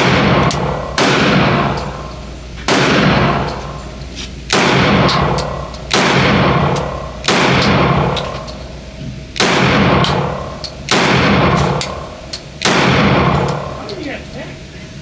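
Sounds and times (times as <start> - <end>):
pistol shots echoing: 0.0 - 2.1, 2.7 - 3.9, 4.5 - 8.8, 9.4 - 13.8.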